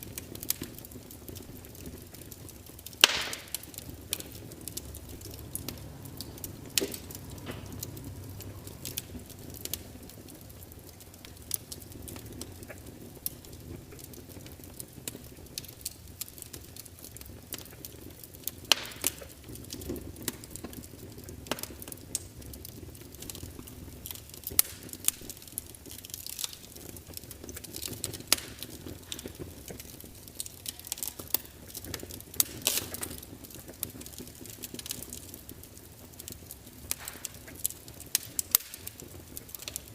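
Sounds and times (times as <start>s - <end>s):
log fire crackling and popping: 0.0s - 39.9s
low rumble of flame: 0.0s - 39.9s.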